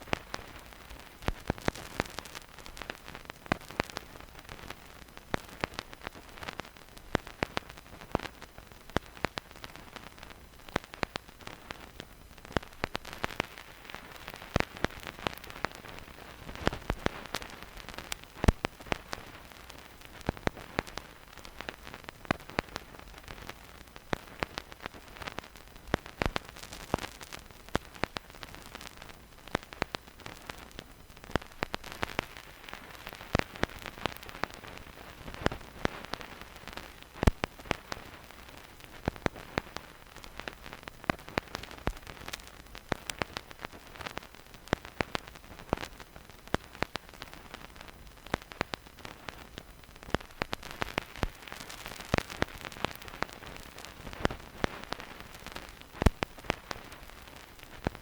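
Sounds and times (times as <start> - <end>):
soft steady hiss: 0.0 - 58.0
vinyl crackles and pops: 0.0 - 58.0.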